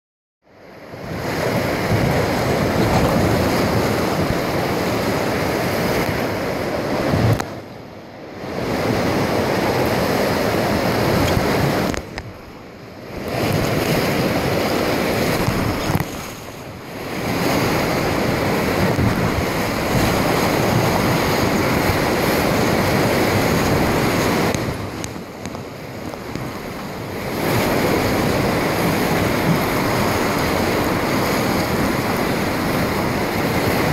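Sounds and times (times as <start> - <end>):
wind buffeting microphone: 0.9 - 7.7, 8.4 - 33.9
river rapids rushing: 0.9 - 33.9.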